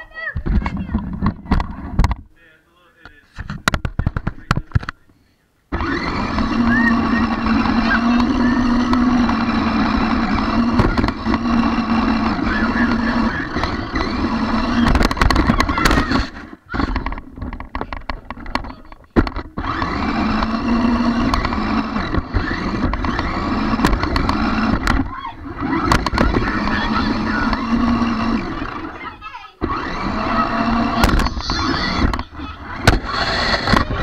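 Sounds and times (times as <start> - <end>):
toy car knocking and rattling: 0.4 - 2.2, 3.4 - 5.0, 5.7 - 34.0
toy car electric motor humming: 5.7 - 34.0.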